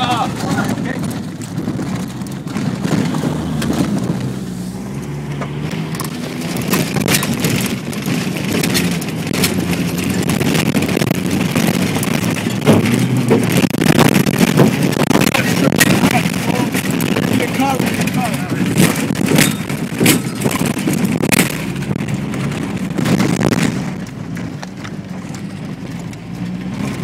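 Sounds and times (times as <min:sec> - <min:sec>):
car engine running: 0:00.0 - 0:27.0
knocks and rattles: 0:00.0 - 0:27.0.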